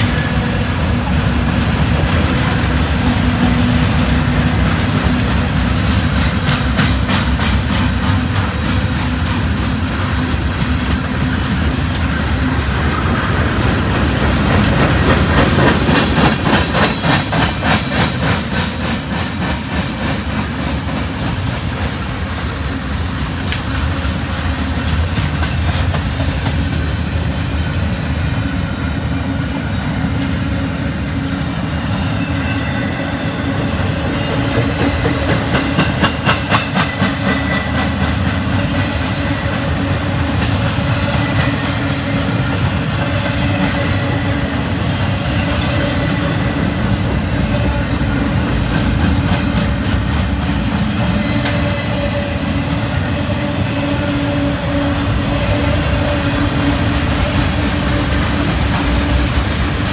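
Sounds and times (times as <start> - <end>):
fast clicking of train wheels: 0.0 - 59.9
freight train rumbling past: 0.0 - 59.9.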